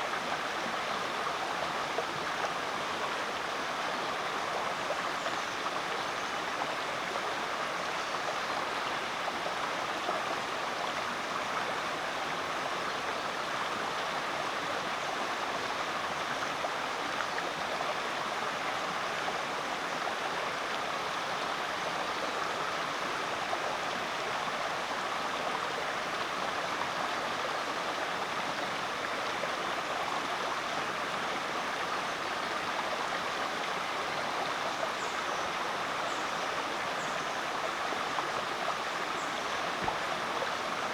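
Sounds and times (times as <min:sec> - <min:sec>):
creek water flowing: 0:00.0 - 0:40.9.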